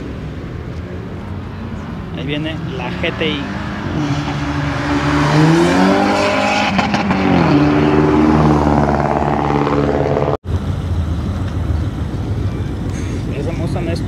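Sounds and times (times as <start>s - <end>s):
car engine accelerating hard: 1.1s - 14.0s.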